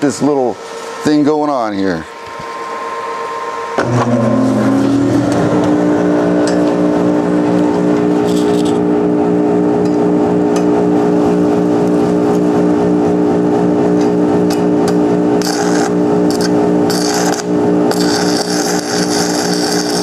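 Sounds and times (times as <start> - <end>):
blower humming with pulsing beat: 0.0 - 20.0.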